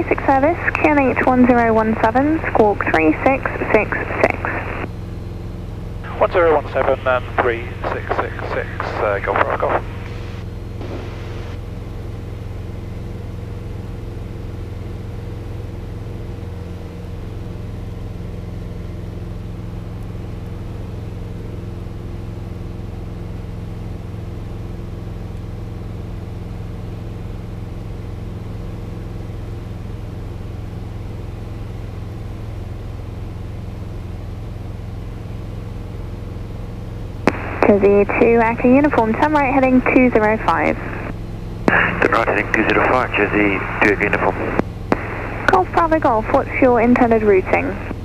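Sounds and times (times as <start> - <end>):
propeller aircraft engine drone: 0.0 - 48.0.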